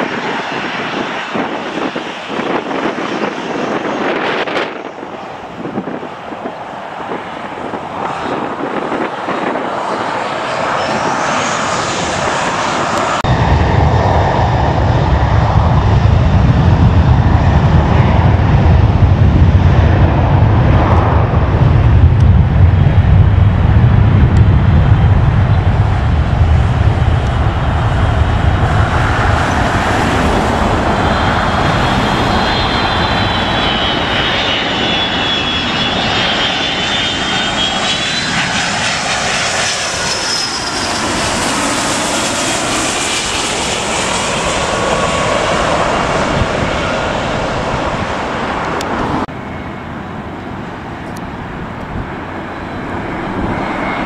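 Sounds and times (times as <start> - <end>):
high jet engine whine: 0.0 - 54.0
jet plane rumble: 0.0 - 54.0.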